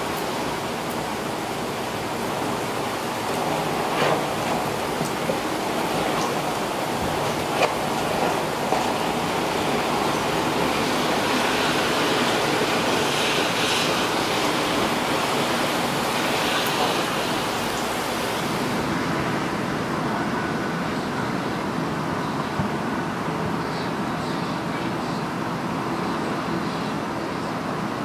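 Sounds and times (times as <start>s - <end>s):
wind driving heavy rain: 0.0s - 23.6s.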